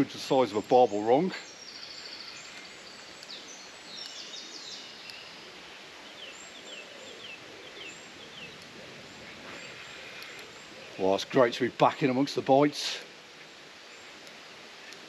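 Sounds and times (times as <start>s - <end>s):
outdoor background hiss: 0.0s - 15.0s
small birds singing: 0.0s - 15.0s.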